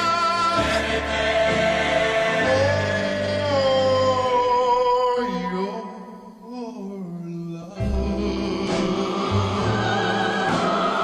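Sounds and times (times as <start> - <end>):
pop ballad with chorus and orchestra: 0.0 - 11.0.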